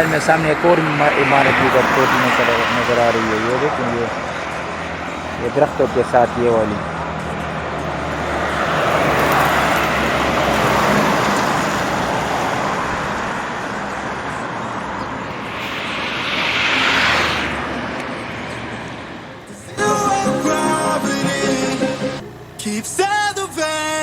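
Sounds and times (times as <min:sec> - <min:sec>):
vehicle passing close: 0:00.0 - 0:22.8
traffic passing: 0:00.0 - 0:24.0.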